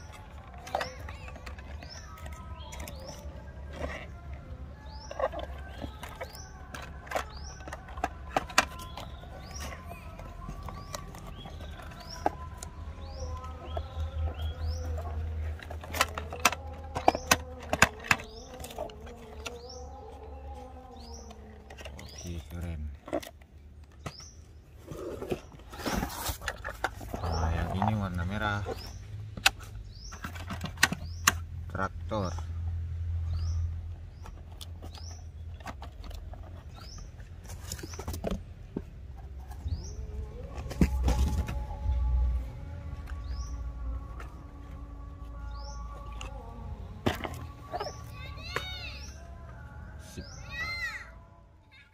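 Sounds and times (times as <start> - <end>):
cardboard and plastic handling: 0.0 - 31.5, 34.1 - 50.4.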